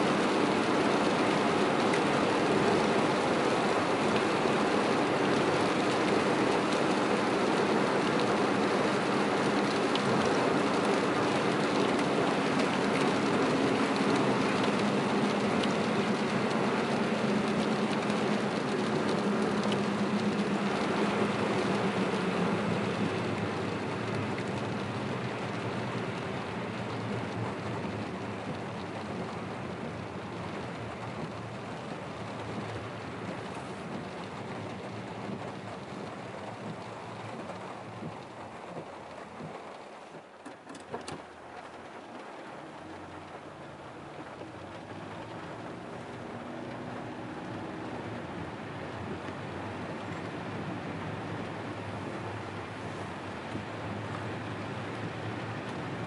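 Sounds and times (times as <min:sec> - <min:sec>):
heavy rain on car: 0:00.0 - 0:56.0
tyres on wet road: 0:00.0 - 0:56.0.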